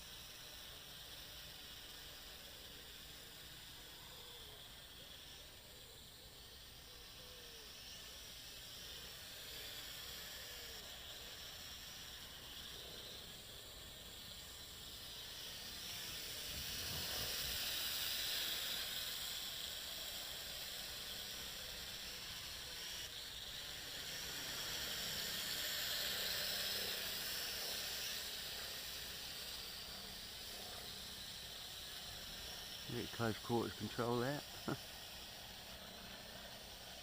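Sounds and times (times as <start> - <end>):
quadcopter propellers buzzing: 0.0 - 37.0.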